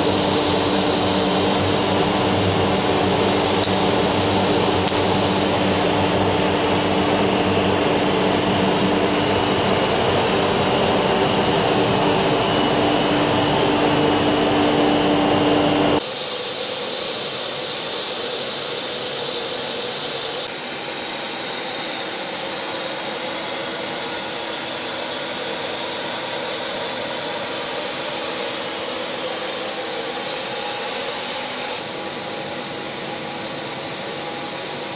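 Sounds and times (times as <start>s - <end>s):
suction machinery rushing hum: 0.0s - 34.9s.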